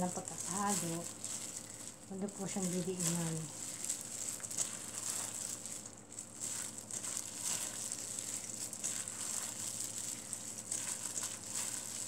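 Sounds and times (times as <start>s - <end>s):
plastic glove crinkling: 0.0s - 12.0s
tossing spinach in a bowl: 0.0s - 12.0s.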